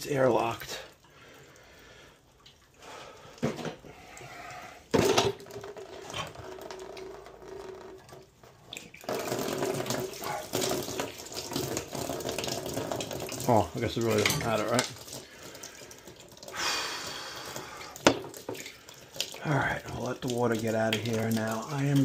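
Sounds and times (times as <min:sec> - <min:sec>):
water hissing from pipes: 0:00.0 - 0:04.9, 0:05.9 - 0:22.0.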